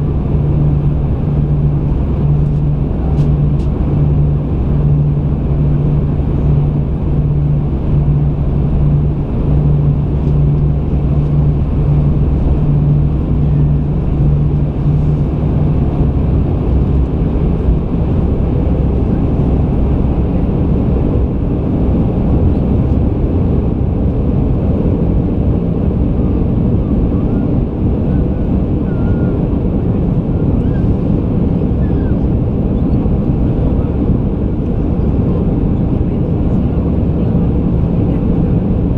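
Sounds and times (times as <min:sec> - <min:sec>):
airliner engines and airflow roar: 0:00.0 - 0:38.9
low pulsing hum: 0:00.0 - 0:38.9.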